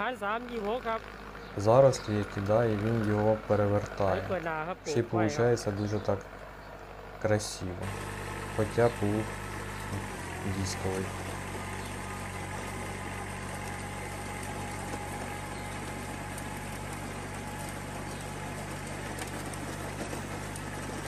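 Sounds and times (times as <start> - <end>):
diesel tractor engine running: 0.0 - 21.0
rotary tiller through soil: 0.0 - 21.0.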